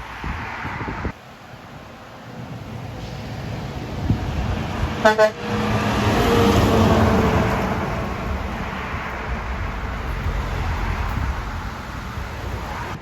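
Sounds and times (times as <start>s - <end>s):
truck driving past: 1.2s - 13.0s.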